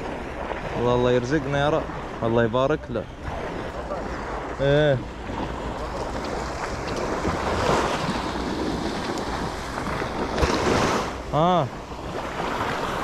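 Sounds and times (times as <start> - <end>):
small waves washing on sand: 0.0 - 13.0
wind buffeting microphone: 0.0 - 13.0.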